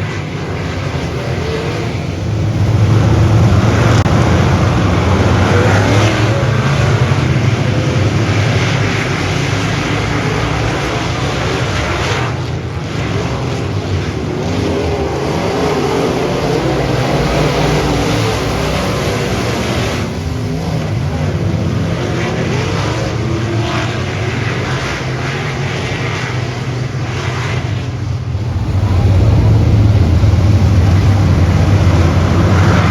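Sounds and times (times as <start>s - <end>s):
race car engines running: 0.0s - 32.9s.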